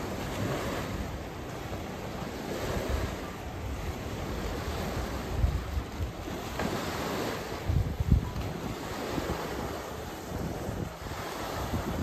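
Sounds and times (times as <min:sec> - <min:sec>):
lake waves washing on shore: 0:00.0 - 0:12.0
wind buffeting microphone: 0:00.0 - 0:12.0.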